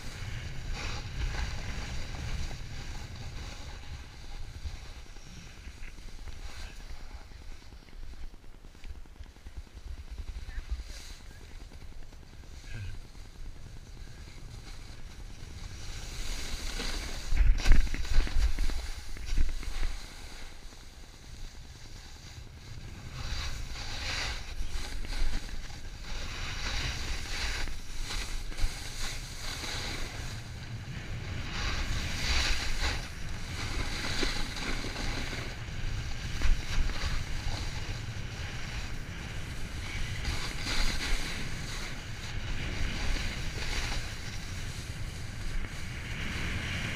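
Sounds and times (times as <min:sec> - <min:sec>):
snowboard scraping over snow: 0:00.0 - 0:46.9
wind rumbling on microphone: 0:00.0 - 0:46.9.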